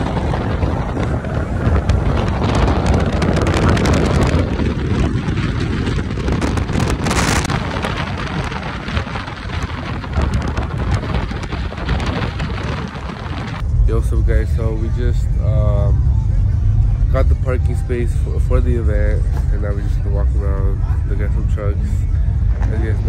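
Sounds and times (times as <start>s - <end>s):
road and traffic noise: 0.0s - 23.0s
wind rushing over microphone: 0.0s - 23.0s.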